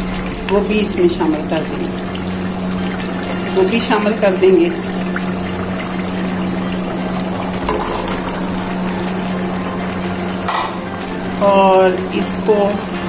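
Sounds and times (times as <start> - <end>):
curry bubbling in a pot: 0.0 - 11.4
low steady hum: 0.0 - 13.0.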